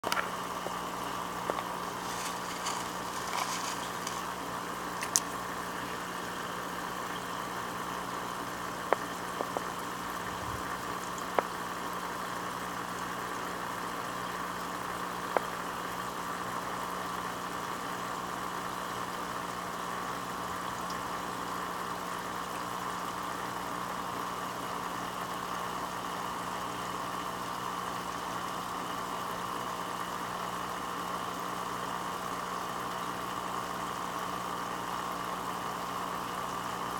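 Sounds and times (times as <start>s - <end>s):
electrical hum with hiss: 0.0s - 36.9s.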